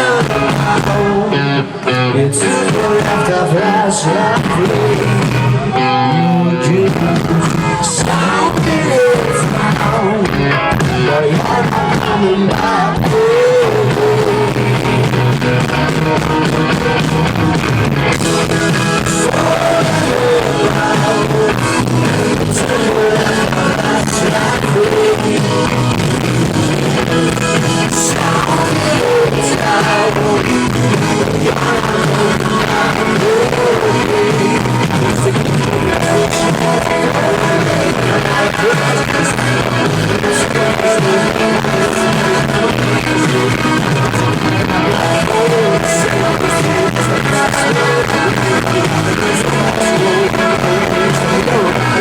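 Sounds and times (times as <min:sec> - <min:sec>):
person singing: 0:00.0 - 0:17.0, 0:18.0 - 0:52.0
rock band playing: 0:00.0 - 0:52.0.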